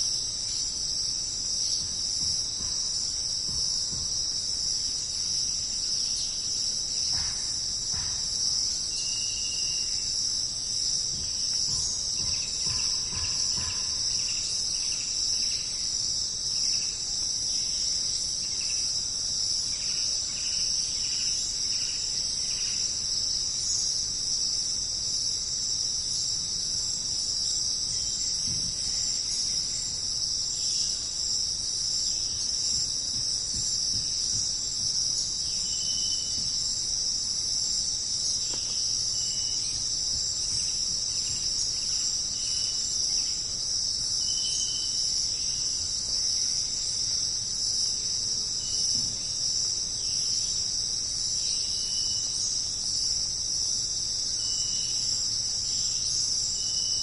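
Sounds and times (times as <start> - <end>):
jungle insects droning: 0.0 - 57.0.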